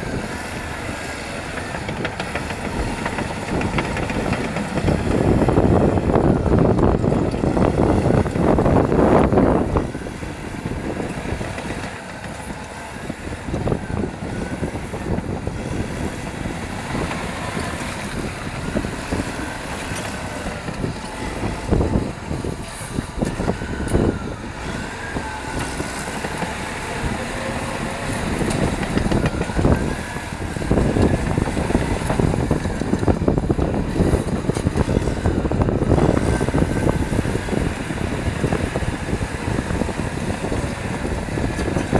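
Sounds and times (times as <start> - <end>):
bulldozer diesel engine running: 0.0 - 41.9
track and stone clatter: 0.0 - 41.9.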